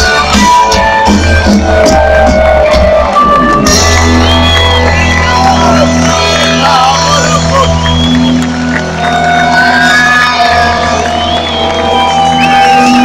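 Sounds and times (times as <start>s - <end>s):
crowd cheering and whistling: 0.0s - 13.0s
live rock band playing: 0.0s - 13.0s.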